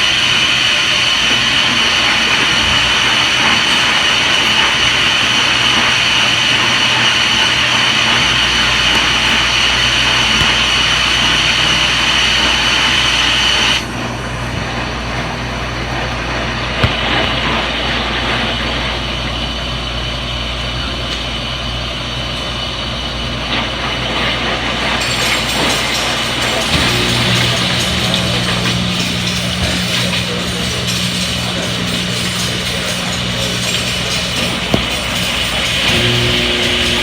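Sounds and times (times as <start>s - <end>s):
high whine: 0.0s - 22.2s, 22.8s - 37.0s
washing machine spinning: 0.0s - 37.0s.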